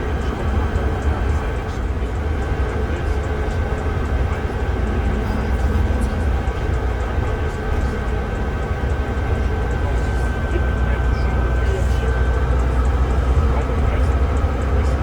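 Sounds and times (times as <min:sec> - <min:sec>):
bus diesel engine drone: 0:00.0 - 0:15.0
road rumble: 0:00.0 - 0:15.0
thin steady whine: 0:00.0 - 0:15.0.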